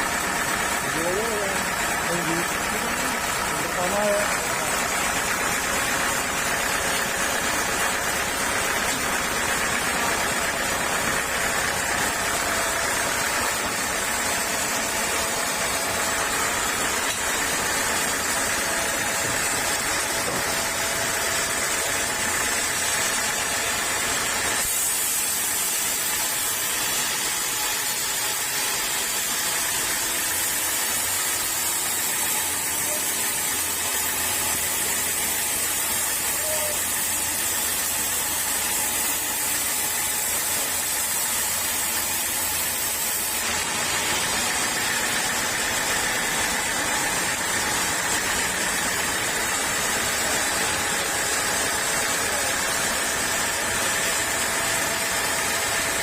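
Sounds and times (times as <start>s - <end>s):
sawmill saw running: 0.0s - 56.0s.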